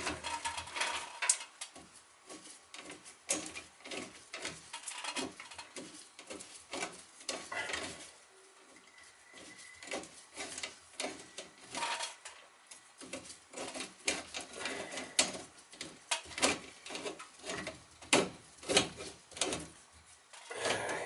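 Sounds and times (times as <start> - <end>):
hand tools on copper pipe: 0.0 - 21.0.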